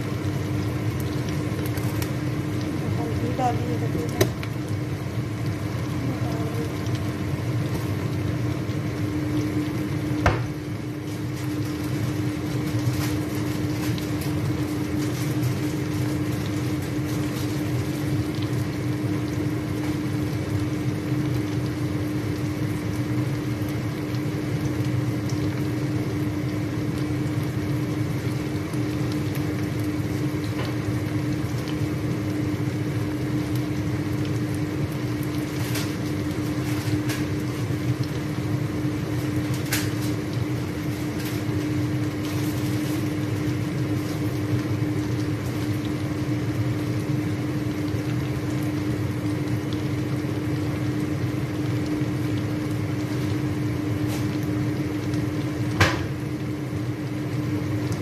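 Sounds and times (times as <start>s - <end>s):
chicken sizzling in hot oil: 0.0s - 58.0s
constant low hum: 0.0s - 58.0s.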